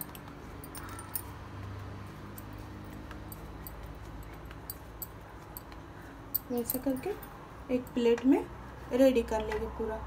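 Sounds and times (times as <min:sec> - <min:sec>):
glass bangles clicking: 0:00.0 - 0:08.2.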